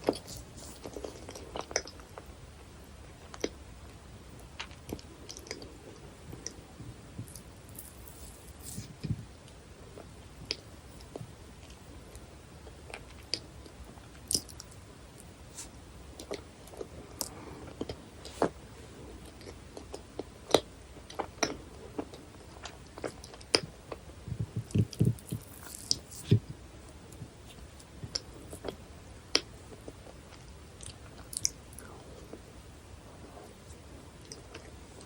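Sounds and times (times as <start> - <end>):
chewing sticky cheesecake: 0.0 - 2.4, 3.1 - 32.6.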